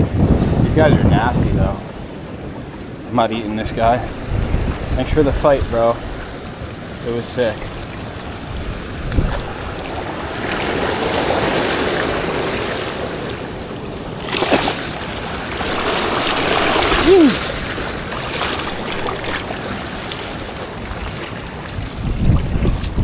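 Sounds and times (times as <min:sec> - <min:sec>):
ocean surf over rocks: 0:00.0 - 0:23.0.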